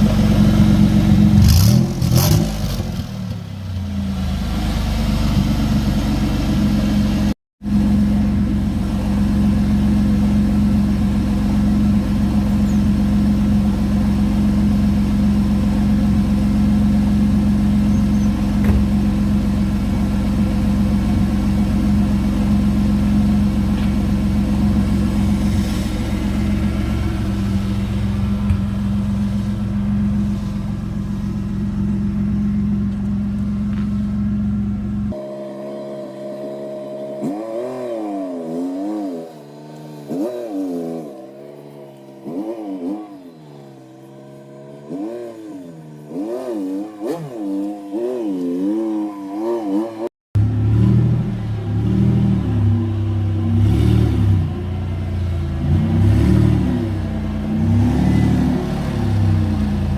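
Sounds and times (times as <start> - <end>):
car engine revving and idling: 0.0 - 59.9.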